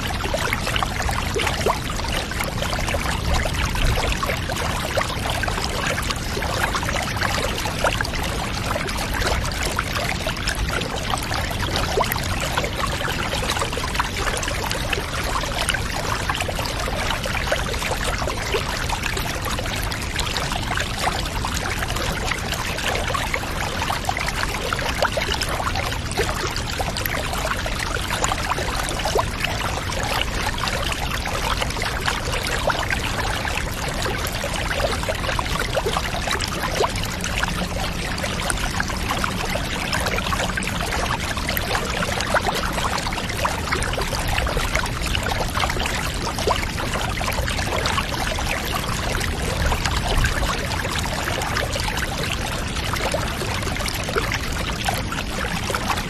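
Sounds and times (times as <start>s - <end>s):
water pouring into a bath: 0.0s - 56.0s.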